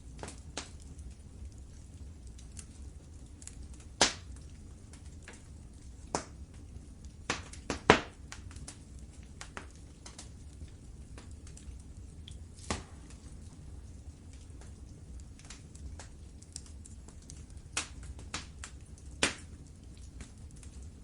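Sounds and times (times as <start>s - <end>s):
low steady rumble: 0.0s - 21.0s
wood fire crackling and popping: 0.0s - 21.0s.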